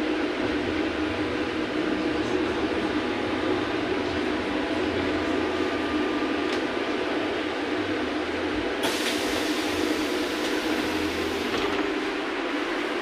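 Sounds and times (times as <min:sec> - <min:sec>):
trolleybus rumble and hum: 0:00.0 - 0:13.0.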